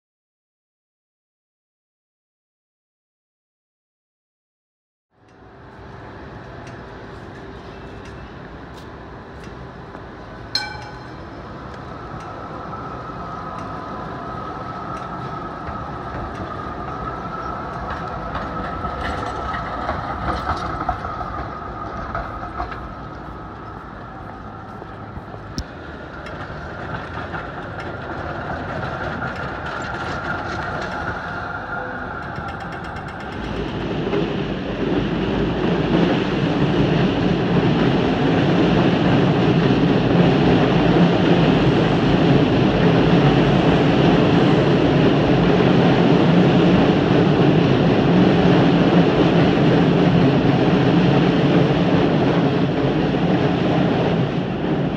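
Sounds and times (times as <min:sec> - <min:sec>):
tram motor whine: 0:05.1 - 0:54.9
wheels clicking on rails: 0:05.2 - 0:54.9.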